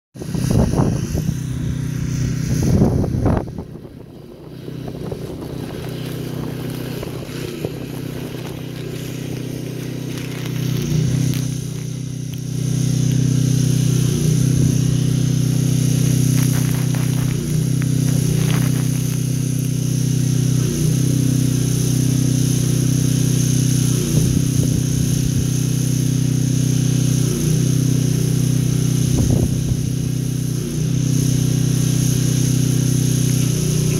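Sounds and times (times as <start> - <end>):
pressure washer engine humming: 0.2 - 33.9.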